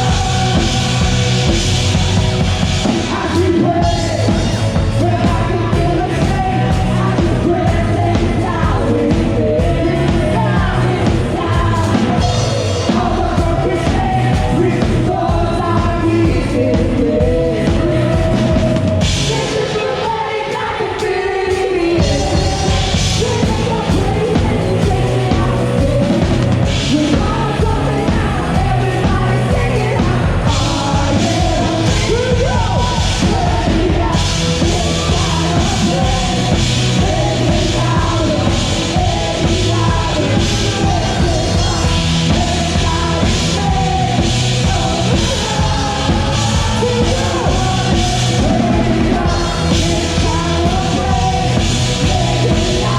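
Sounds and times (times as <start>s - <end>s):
drum kit beat: 0.0s - 19.6s, 21.9s - 52.9s
rock band playing: 0.0s - 21.0s, 21.9s - 52.9s
person singing: 0.0s - 52.9s.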